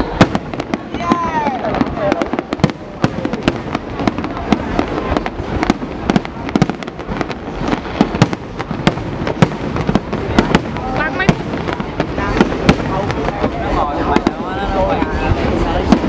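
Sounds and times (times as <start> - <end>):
fireworks bursting: 0.0 - 16.0
fireworks rumble and crackle: 0.0 - 16.0.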